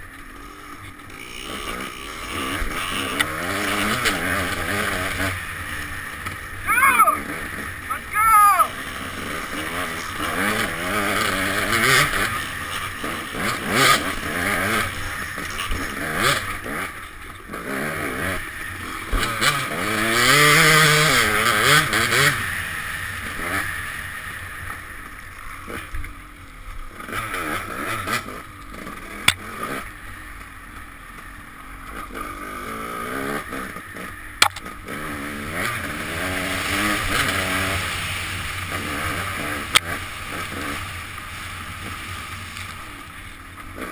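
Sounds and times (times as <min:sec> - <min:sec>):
dirt bike engine revving: 0:00.3 - 0:26.0, 0:26.9 - 0:30.4, 0:31.1 - 0:43.9.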